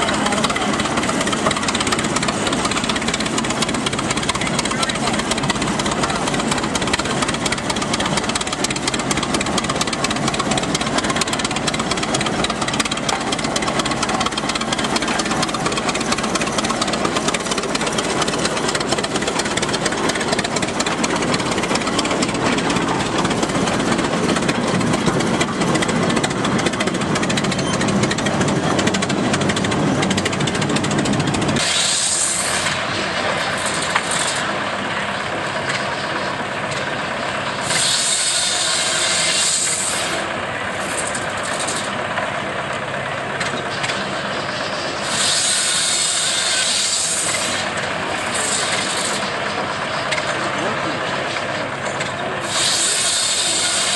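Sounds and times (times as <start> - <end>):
tractor engine clattering: 0.0 - 53.9.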